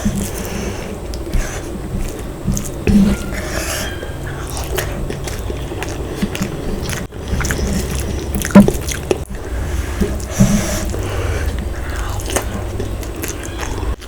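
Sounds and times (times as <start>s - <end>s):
chewing and biting food: 0.0s - 14.0s
small mouth clicks: 0.0s - 14.0s.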